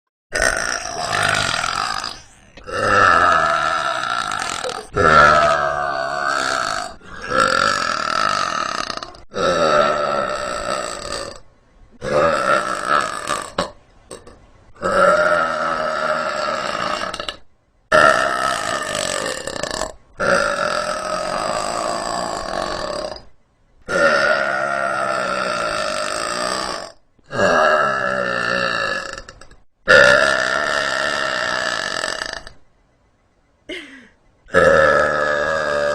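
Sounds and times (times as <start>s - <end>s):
woman belching: 0.4s - 11.4s, 12.0s - 23.3s, 23.9s - 32.6s, 33.7s - 35.9s.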